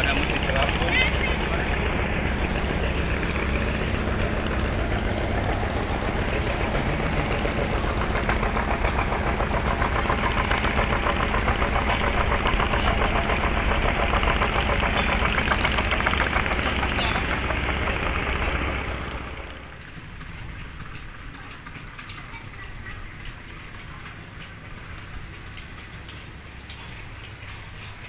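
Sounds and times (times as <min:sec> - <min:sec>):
diesel boat engine knocking: 0:00.0 - 0:28.0.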